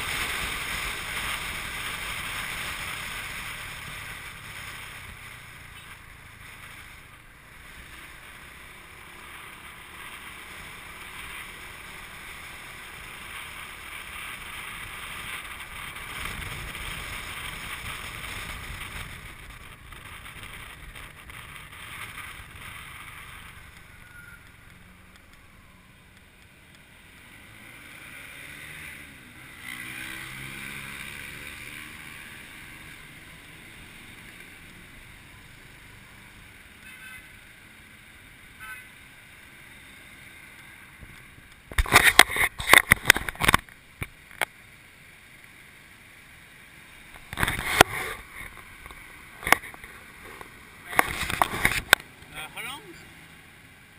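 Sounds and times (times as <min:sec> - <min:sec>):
motorcycle engine: 0:00.0 - 0:43.7
wind and road noise: 0:00.0 - 0:53.9.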